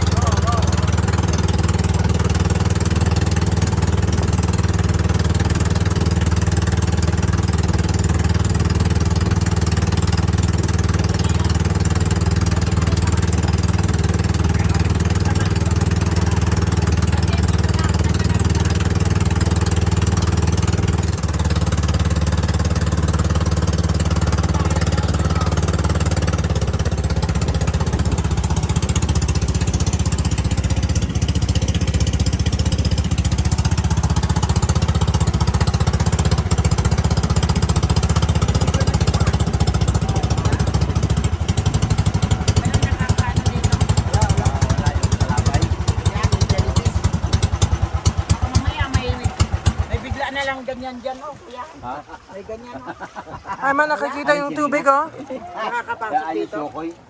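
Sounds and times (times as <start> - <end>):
boat engine chugging: 0.0 - 57.0.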